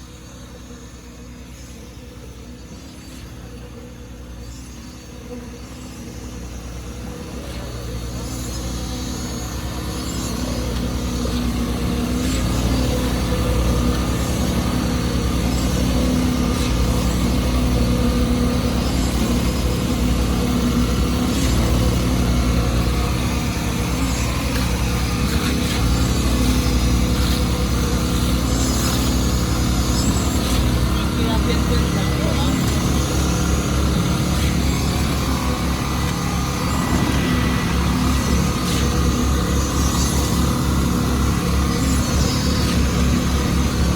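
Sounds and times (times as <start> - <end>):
heavy engine running: 0.0 - 43.9.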